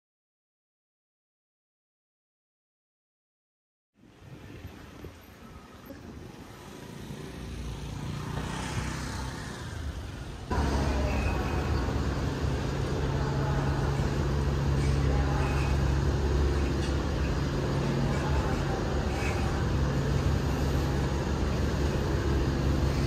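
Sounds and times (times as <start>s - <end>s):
street traffic: 4.0s - 23.0s
boat engine droning: 4.1s - 23.0s.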